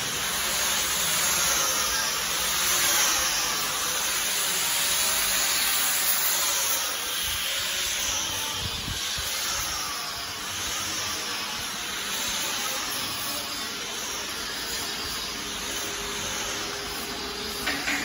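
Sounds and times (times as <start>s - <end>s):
workshop machinery hissing: 0.0s - 18.0s.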